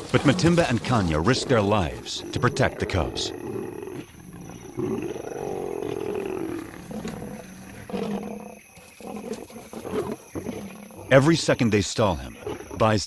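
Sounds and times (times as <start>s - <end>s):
lions growling and snarling: 0.0s - 13.0s.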